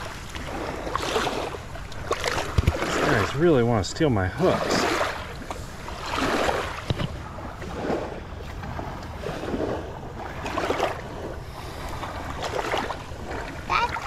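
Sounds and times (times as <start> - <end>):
small waves washing on sand: 0.0 - 14.0.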